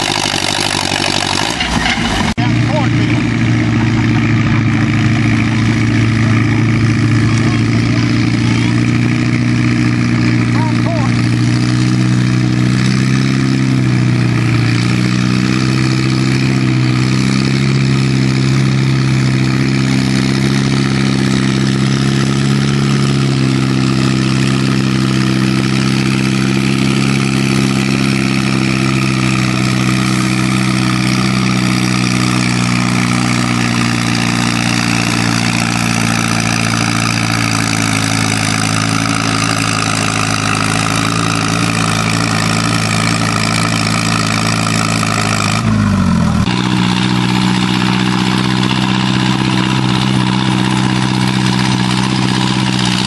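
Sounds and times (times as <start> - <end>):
tractor engine under load: 0.0 - 53.0.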